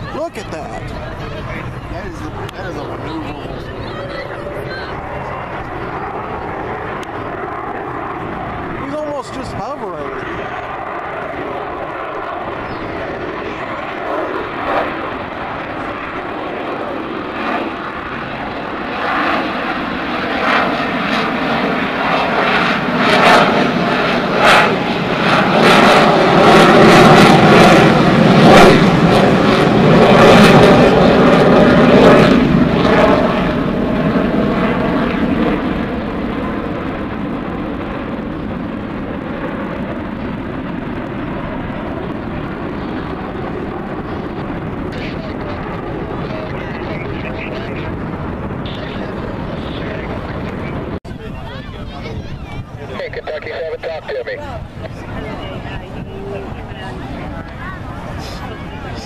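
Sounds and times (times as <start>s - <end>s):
airplane low pass: 0.0s - 59.0s.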